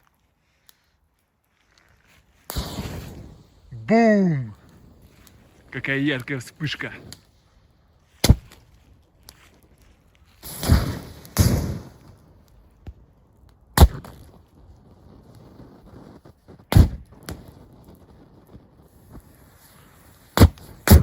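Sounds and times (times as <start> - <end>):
gas lighters bursting in fire: 1.9 - 7.4, 8.0 - 21.0.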